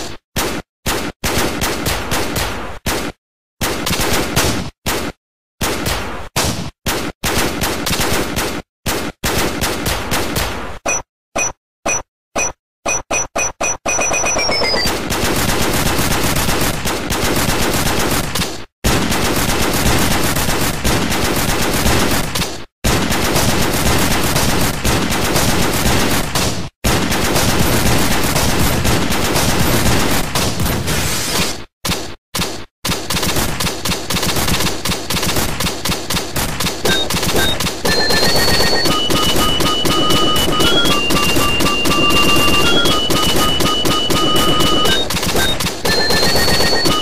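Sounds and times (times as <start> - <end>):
rapid automatic gunfire: 0.0 - 6.1, 6.9 - 10.6, 14.0 - 30.9, 31.9 - 47.0.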